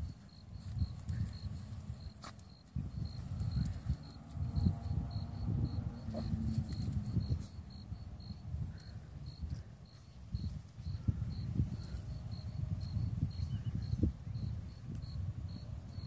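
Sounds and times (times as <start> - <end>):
cricket chirping: 0.0 - 16.0
low rumble on microphone: 0.0 - 16.0.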